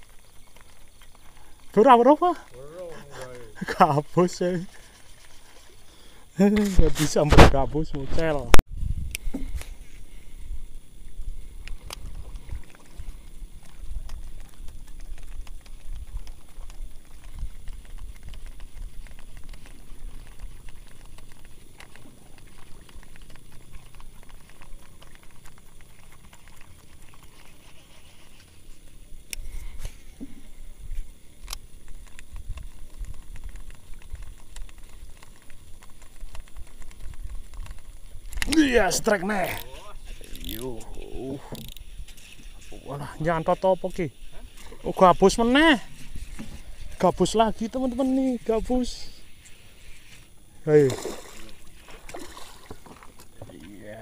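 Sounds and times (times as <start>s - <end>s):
water lapping against a boat hull: 0.0s - 54.0s.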